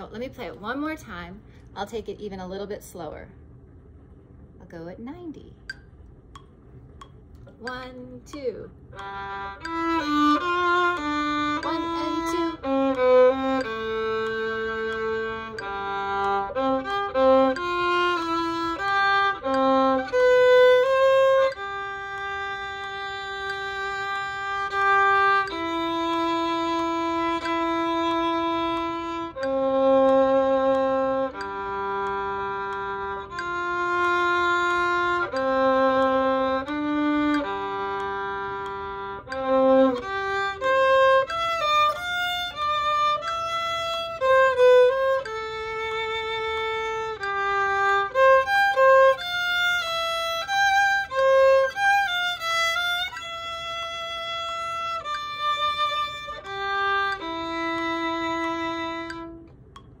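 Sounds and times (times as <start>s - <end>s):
solo violin bowed: 8.9s - 59.9s.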